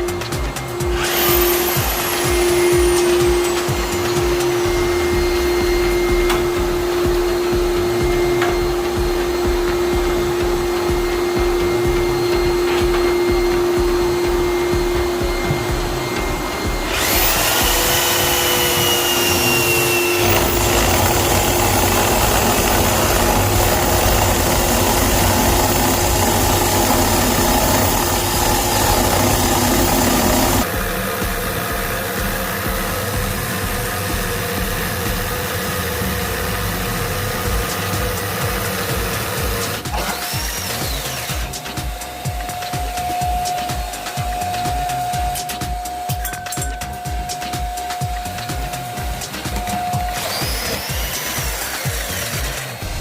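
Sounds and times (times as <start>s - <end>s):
machine whooshing and whining: 0.0s - 53.0s
motor hum: 0.0s - 53.0s.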